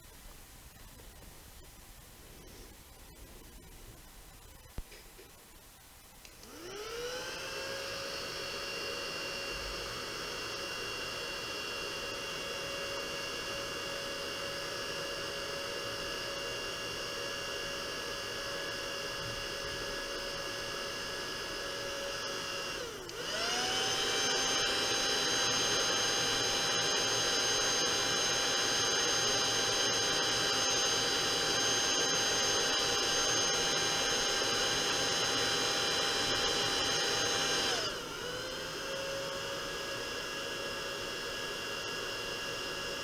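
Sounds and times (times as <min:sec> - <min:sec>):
small electric motor tool whining: 0:06.3 - 0:43.0.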